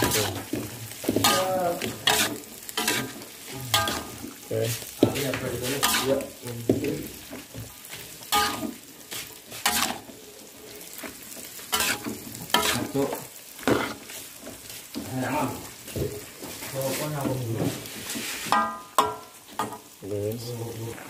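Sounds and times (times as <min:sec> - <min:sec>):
spatula scraping a wok: 0:00.0 - 0:20.0
food sizzling: 0:00.0 - 0:21.0.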